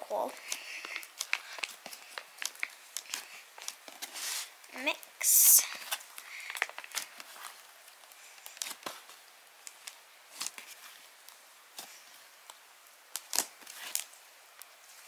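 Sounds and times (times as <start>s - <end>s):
slime squishing by hand: 0.1s - 15.0s.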